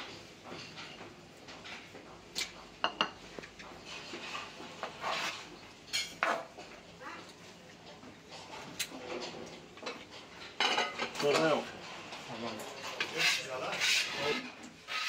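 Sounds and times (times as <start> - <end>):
utensils and dishes clinking: 0.0 - 15.0.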